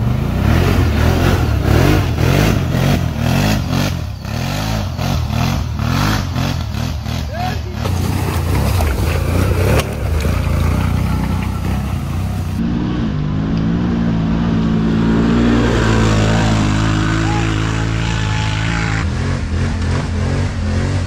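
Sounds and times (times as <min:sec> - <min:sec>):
atv engines revving: 0:00.0 - 0:21.0.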